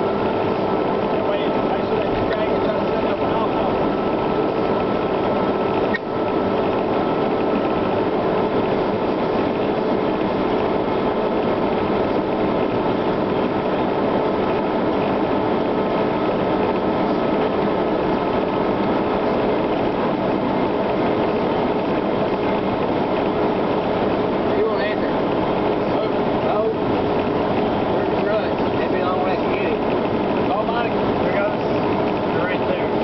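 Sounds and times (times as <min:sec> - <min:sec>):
steady whine: 0:00.0 - 0:33.0
vehicle cabin road noise: 0:00.0 - 0:33.0.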